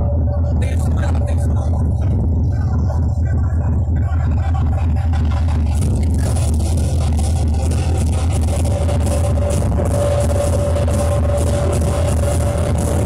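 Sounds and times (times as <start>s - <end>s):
loud festival music with heavy bass: 0.0s - 13.0s.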